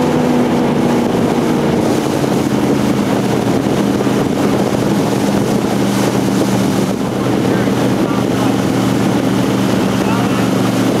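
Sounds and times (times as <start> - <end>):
boat engine running: 0.0 - 11.0
wind on microphone: 0.0 - 11.0.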